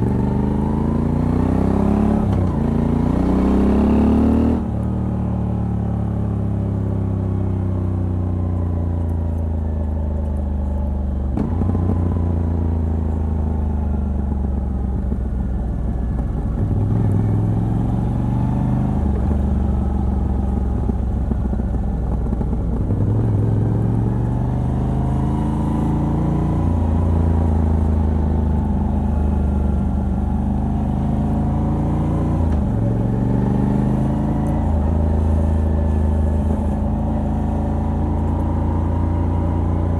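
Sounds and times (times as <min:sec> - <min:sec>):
motorcycle engine with gear changes: 0:00.0 - 0:39.9.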